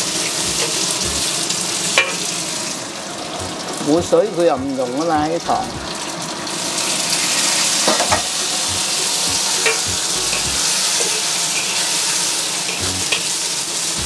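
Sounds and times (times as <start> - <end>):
wok sizzling: 0.0 - 14.0.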